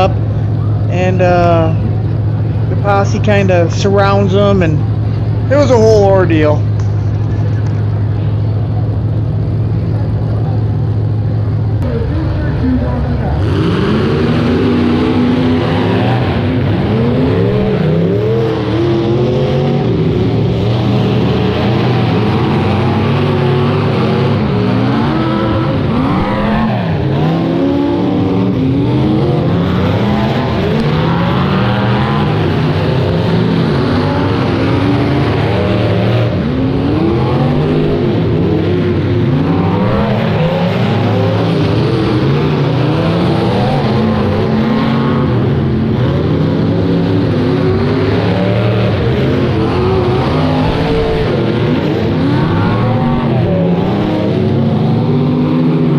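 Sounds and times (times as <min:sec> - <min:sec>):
car engines revving: 0:00.0 - 0:55.9.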